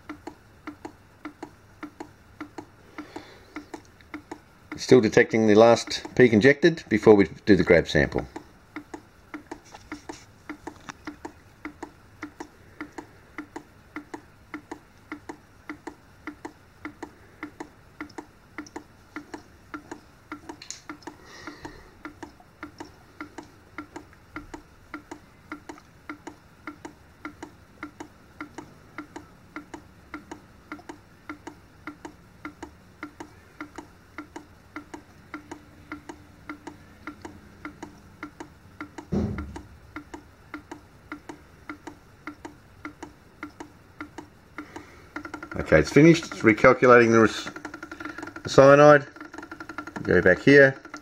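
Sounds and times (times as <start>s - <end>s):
analyser mechanism ticking: 0.0s - 51.0s
faint hum: 0.0s - 51.0s.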